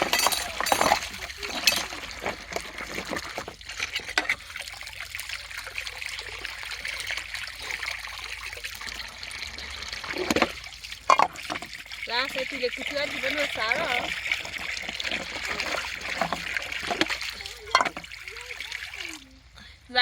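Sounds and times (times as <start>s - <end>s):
water splashes: 0.0s - 20.0s
water trickling: 0.0s - 20.0s.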